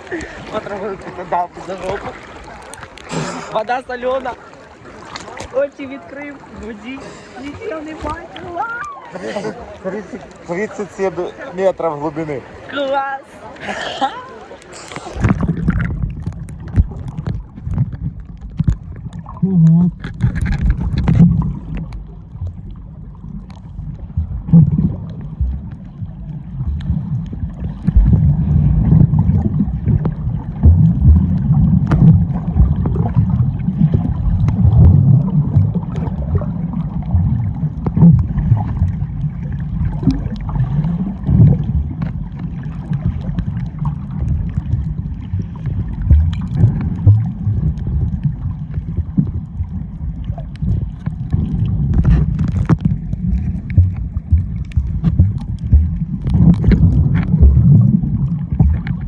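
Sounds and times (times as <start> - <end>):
muffled underwater water sloshing: 0.0 - 59.0.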